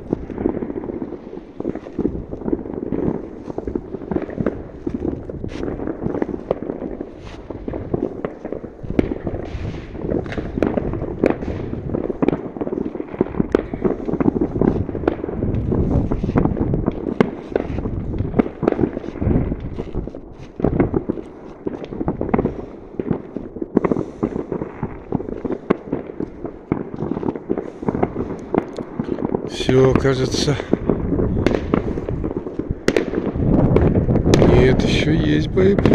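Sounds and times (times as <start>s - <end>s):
fireworks crackling and banging: 0.0s - 35.9s
rumble of distant explosions: 0.0s - 35.9s.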